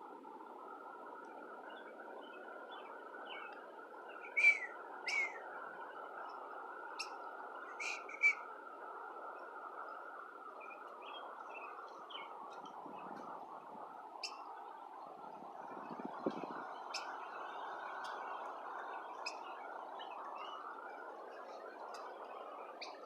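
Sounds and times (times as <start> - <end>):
wind and rain hiss: 0.0 - 23.0
birds chirping: 1.1 - 23.0.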